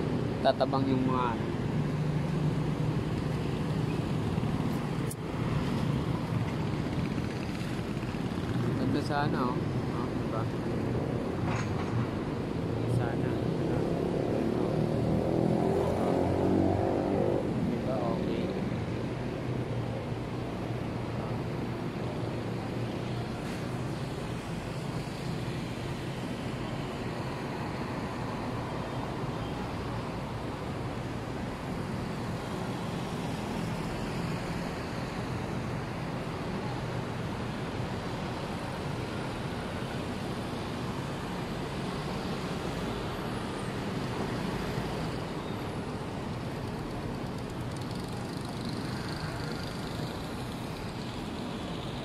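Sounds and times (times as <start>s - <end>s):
cars passing: 0.0s - 52.0s
low hum of road noise: 0.0s - 52.0s.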